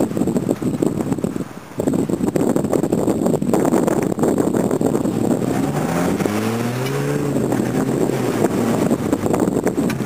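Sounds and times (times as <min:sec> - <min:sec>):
wind buffeting microphone: 0:00.0 - 0:10.0
suv engine under load: 0:00.2 - 0:10.0.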